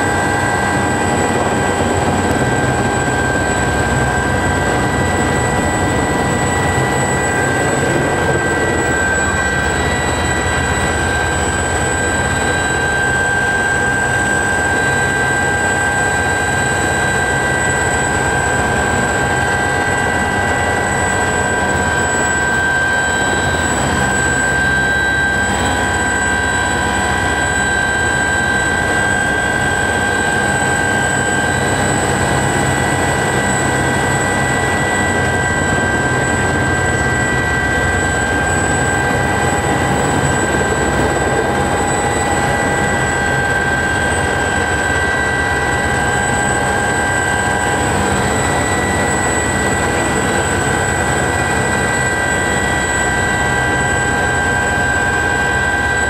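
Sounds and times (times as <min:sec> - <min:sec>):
helicopter low rumble: 0:00.0 - 0:56.0
helicopter turbine whine: 0:00.0 - 0:56.0.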